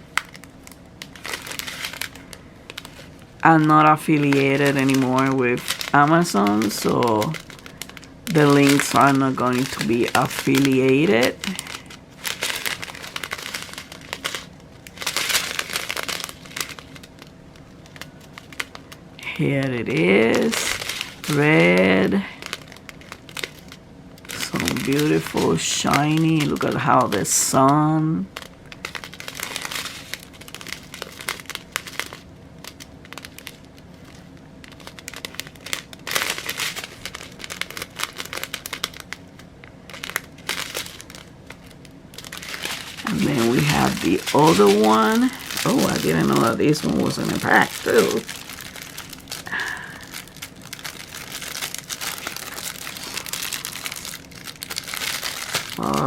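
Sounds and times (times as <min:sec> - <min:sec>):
plastic bags crinkling: 0:00.0 - 0:56.0.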